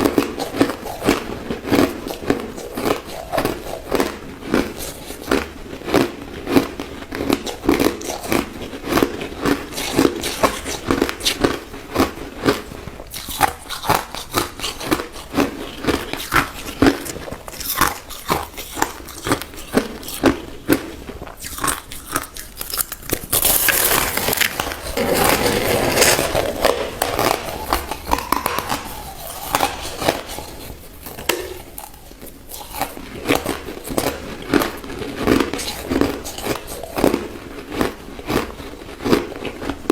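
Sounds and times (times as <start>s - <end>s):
person chewing crushed ice: 0.0s - 39.9s.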